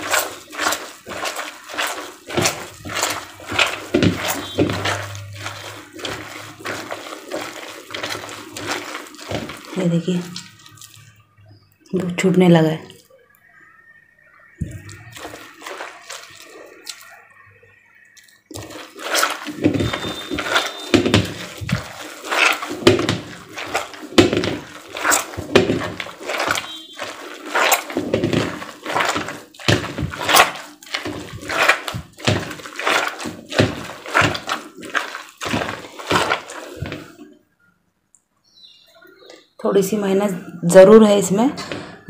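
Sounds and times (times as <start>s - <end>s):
cream squelching and sloshing: 0.0s - 11.7s, 14.5s - 37.4s.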